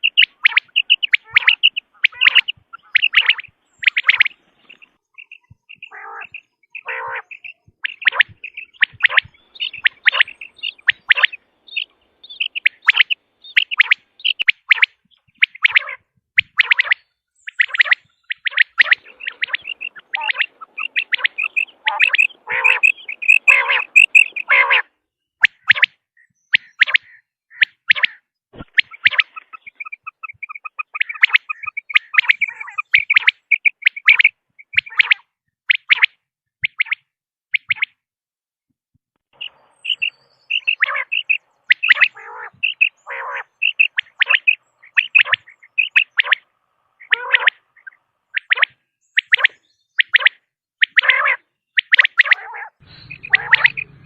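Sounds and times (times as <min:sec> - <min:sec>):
quail calling: 0:00.0 - 0:38.0, 0:39.4 - 0:54.0.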